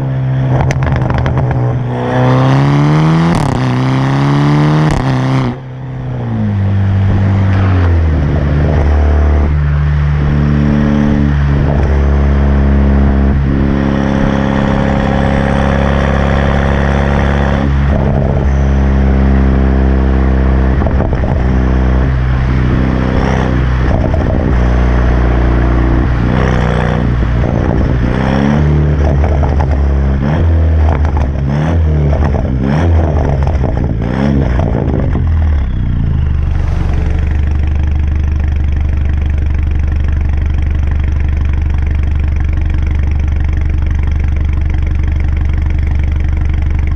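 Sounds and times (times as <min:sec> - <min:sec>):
car exhaust idling: 0:00.0 - 0:02.3, 0:05.5 - 0:34.0, 0:34.7 - 0:46.9.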